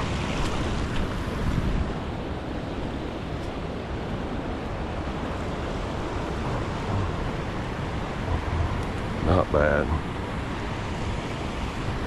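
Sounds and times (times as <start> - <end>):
creek water rushing over rapids: 0.0 - 12.0.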